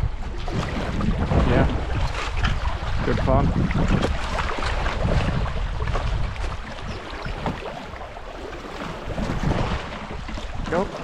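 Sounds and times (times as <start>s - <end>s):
water rushing and splashing: 0.0s - 11.0s
wind buffeting microphone: 0.0s - 11.0s.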